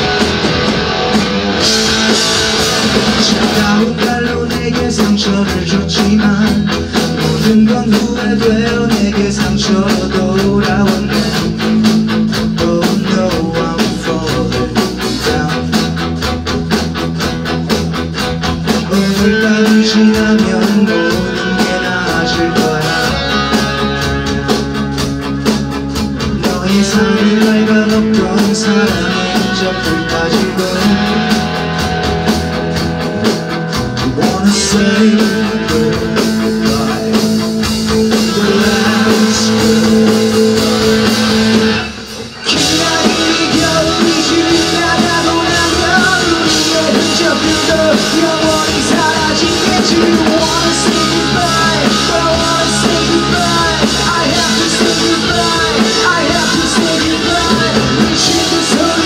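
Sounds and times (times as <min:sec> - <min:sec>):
rock band playing: 0:00.0 - 0:59.0
man singing: 0:03.1 - 0:16.1, 0:18.6 - 0:24.0, 0:26.2 - 0:31.8, 0:34.0 - 0:41.6, 0:42.4 - 0:59.0.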